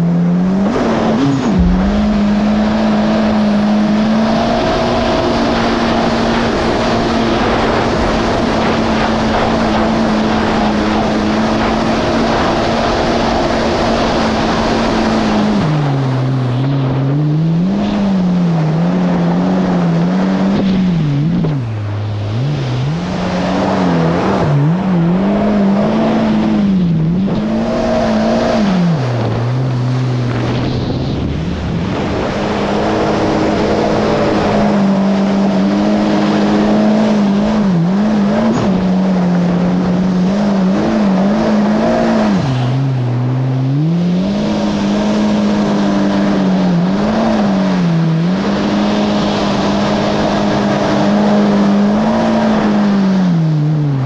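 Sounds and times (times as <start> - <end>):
jet ski engine running hard: 0.0 - 54.0
water spray and wind rushing: 0.0 - 54.0.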